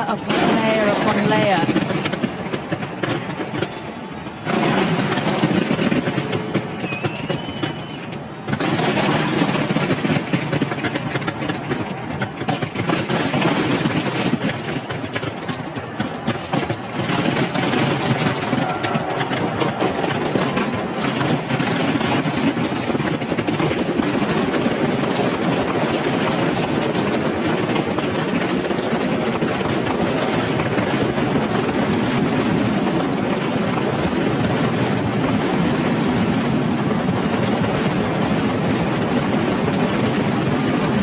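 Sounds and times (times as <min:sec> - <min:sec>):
fireworks crackling and popping: 0:00.0 - 0:41.0.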